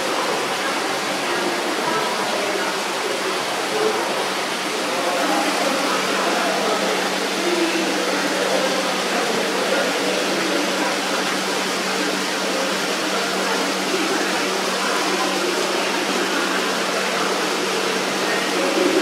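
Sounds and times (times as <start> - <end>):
rushing water and air machinery: 0.0 - 19.0.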